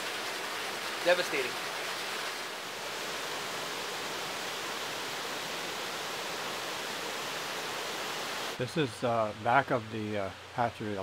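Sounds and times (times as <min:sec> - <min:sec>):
rushing floodwater: 0:00.0 - 0:11.0.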